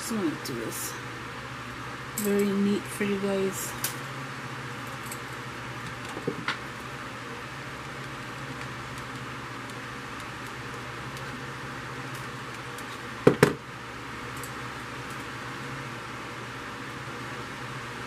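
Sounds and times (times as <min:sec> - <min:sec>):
room hum and hiss: 0:00.0 - 0:18.0.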